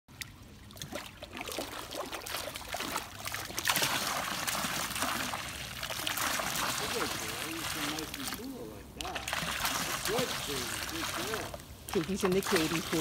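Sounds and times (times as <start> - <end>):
small water splashes: 0.1 - 13.0
water dripping into pool: 0.1 - 13.0
dog lapping water: 0.2 - 8.4, 9.0 - 13.0.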